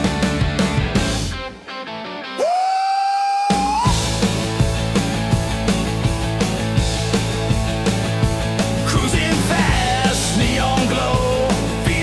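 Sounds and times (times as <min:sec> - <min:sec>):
rock band playing: 0:00.0 - 0:02.4, 0:03.5 - 0:12.0.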